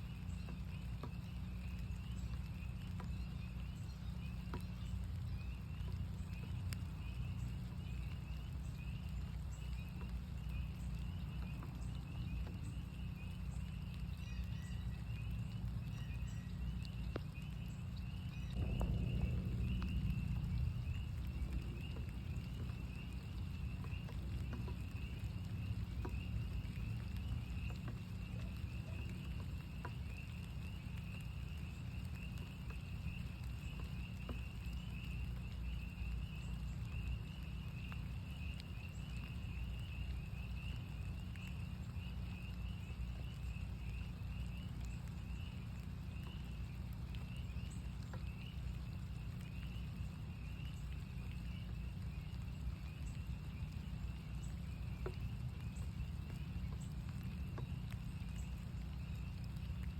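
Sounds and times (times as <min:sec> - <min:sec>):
low rumble of rain: 0:00.0 - 0:59.9
raindrops ticking: 0:00.0 - 0:59.9.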